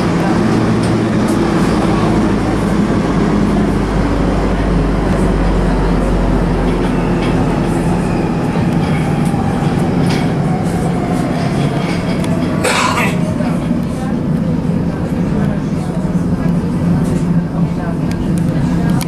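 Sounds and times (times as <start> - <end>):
thin train whine: 0.0 - 19.0
train motor hum: 0.0 - 19.0
train wheel and rail rumble: 0.0 - 19.0.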